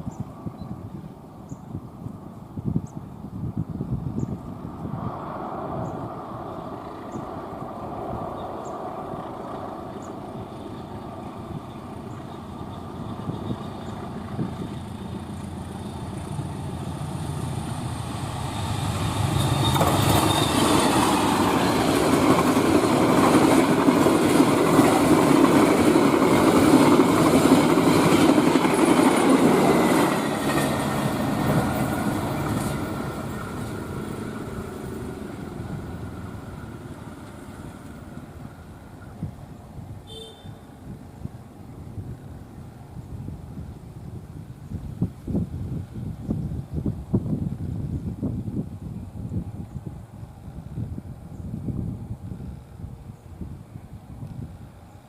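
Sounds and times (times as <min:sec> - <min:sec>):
passenger train passing fast: 0:03.2 - 0:55.0.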